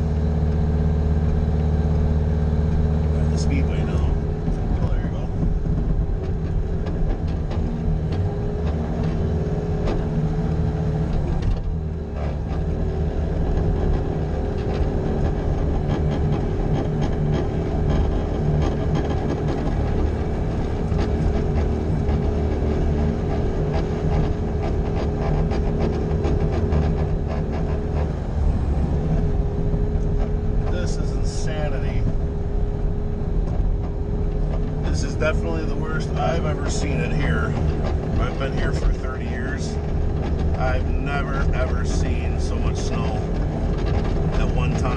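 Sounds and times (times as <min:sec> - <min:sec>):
engine drone: 0:00.0 - 0:44.9
skid-steer loader whine: 0:00.0 - 0:44.9.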